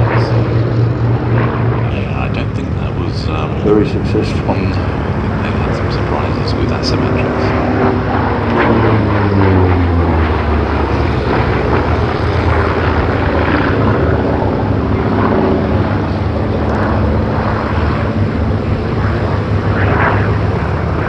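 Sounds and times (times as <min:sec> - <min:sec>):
propeller plane flying past: 0:00.0 - 0:21.0.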